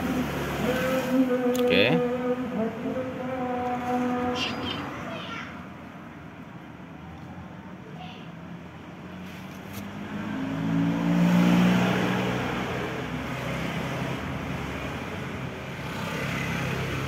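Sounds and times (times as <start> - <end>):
motor vehicle engine: 0.0 - 7.6, 8.5 - 17.0.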